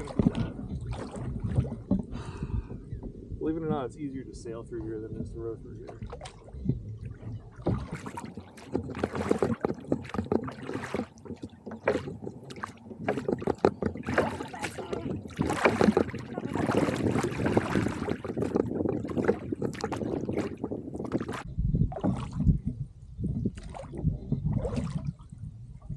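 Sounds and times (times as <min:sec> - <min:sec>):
oar knocks and clicks: 0:00.0 - 0:03.9, 0:05.1 - 0:25.0
oars splashing through water: 0:00.0 - 0:25.4.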